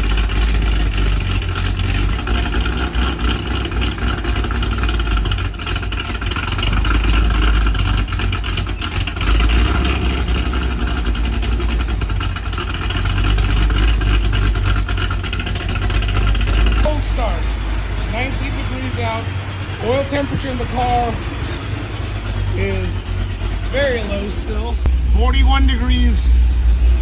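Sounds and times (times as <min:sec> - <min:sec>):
car engine idling loudly: 0:00.0 - 0:27.0.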